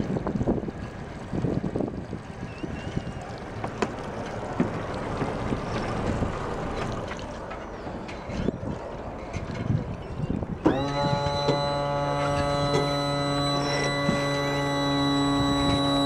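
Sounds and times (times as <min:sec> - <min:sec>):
boat diesel engine running: 0:00.0 - 0:16.0
wind buffeting microphone: 0:00.0 - 0:16.0.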